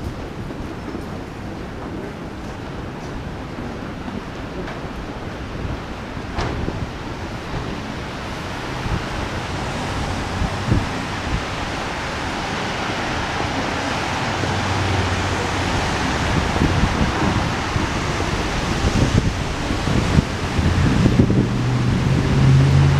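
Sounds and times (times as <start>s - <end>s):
outdoor street noise hiss: 0.0s - 22.9s
wind buffeting microphone: 0.0s - 22.9s.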